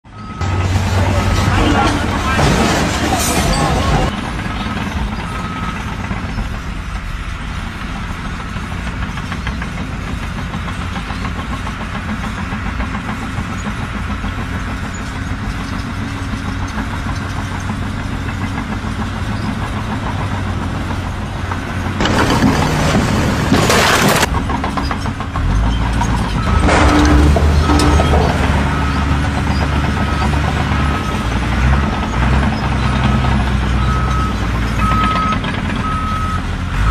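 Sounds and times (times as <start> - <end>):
machine engine running: 0.4 - 25.4, 26.1 - 33.5.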